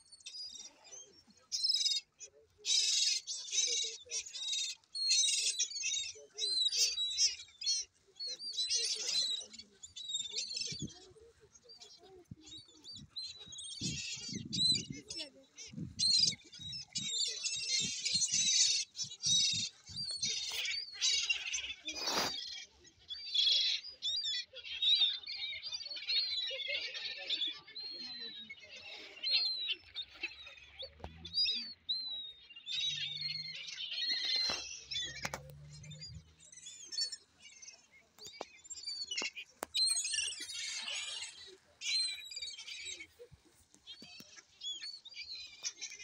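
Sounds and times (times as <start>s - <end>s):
seagulls calling: 0.0s - 22.8s, 26.0s - 46.0s.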